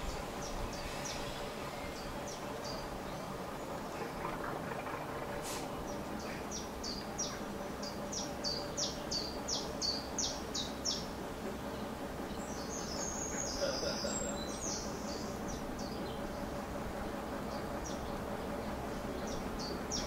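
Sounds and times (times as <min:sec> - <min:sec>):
faint steady hum: 0:00.0 - 0:20.0
songbird singing: 0:00.0 - 0:20.0.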